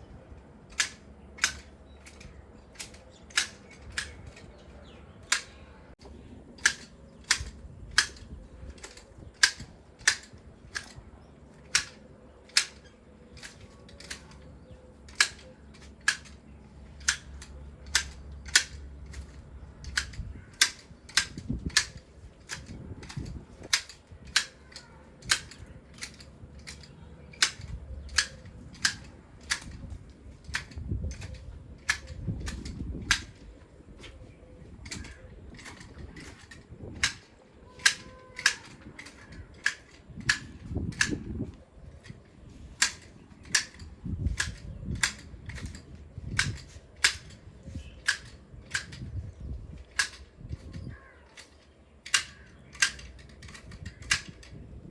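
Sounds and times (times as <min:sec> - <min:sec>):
garden shears snipping: 0:00.6 - 0:54.9.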